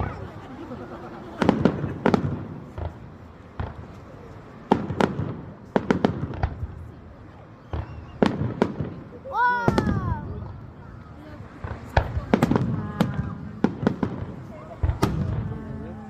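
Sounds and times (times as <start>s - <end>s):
fireworks exploding: 0.0s - 16.0s.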